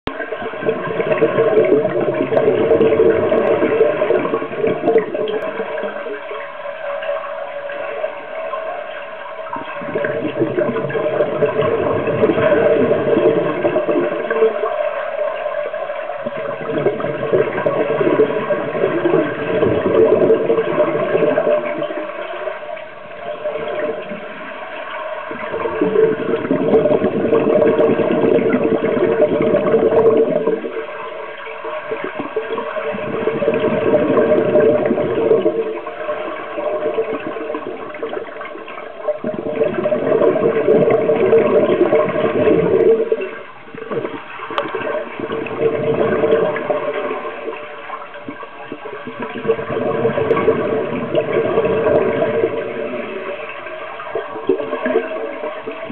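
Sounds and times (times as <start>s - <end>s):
underwater exhalation bubbles: 0.1s - 6.5s, 9.5s - 55.9s.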